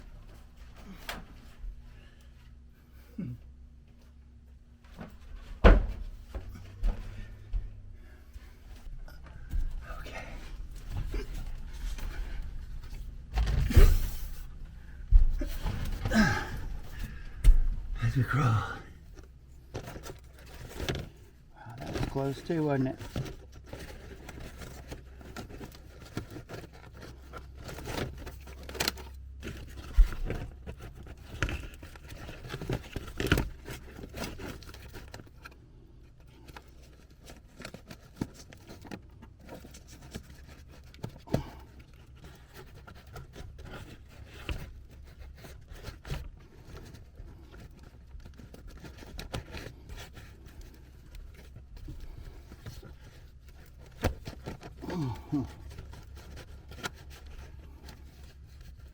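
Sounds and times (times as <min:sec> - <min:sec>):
scraping and rustling: 0:04.0 - 0:18.3, 0:19.0 - 0:58.9.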